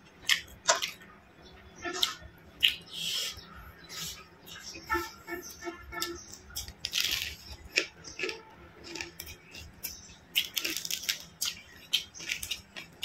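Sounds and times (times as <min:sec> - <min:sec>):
mouth chewing food: 0:00.0 - 0:13.0.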